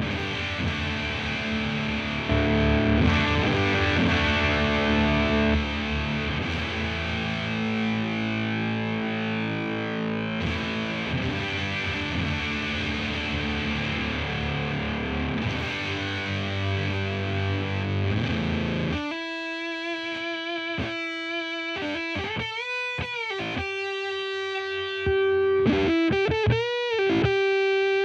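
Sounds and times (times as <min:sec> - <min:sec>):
fuzzed electric guitar: 0:00.0 - 0:28.0.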